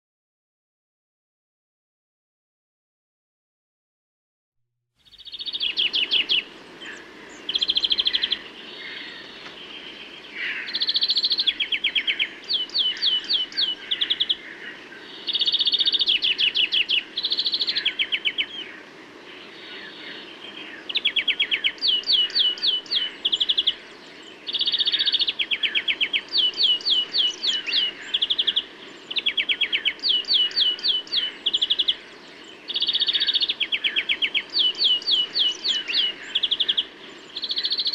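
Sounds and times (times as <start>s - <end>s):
birds chirping: 5.0s - 37.9s
low background noise: 5.0s - 37.9s.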